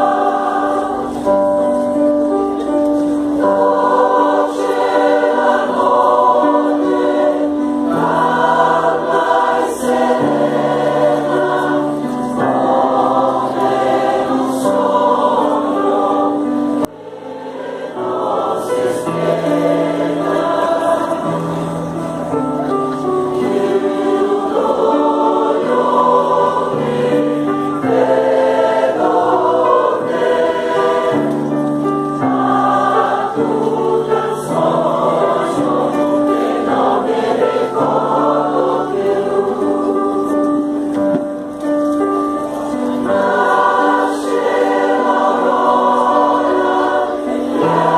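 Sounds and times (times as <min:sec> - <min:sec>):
mixed choir singing hymn: 0:00.0 - 0:47.9.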